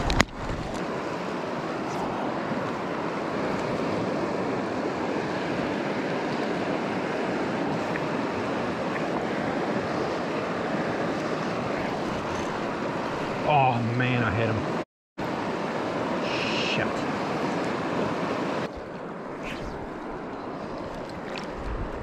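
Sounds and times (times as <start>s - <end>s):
fast-flowing river rushing: 0.5s - 22.0s.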